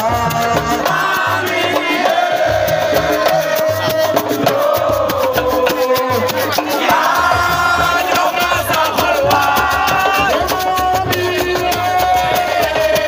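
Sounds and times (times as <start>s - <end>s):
upbeat music with shaker and drums: 0.0s - 13.0s.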